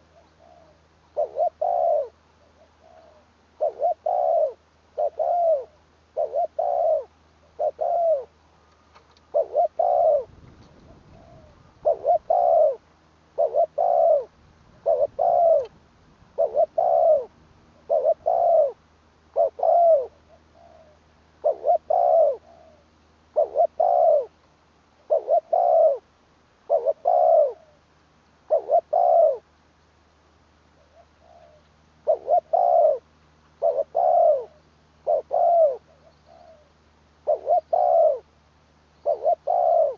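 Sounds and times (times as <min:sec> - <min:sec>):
dove cooing: 0:00.0 - 0:08.4, 0:09.2 - 0:24.4, 0:25.0 - 0:27.8, 0:28.4 - 0:29.5, 0:30.8 - 0:38.3, 0:39.0 - 0:39.9.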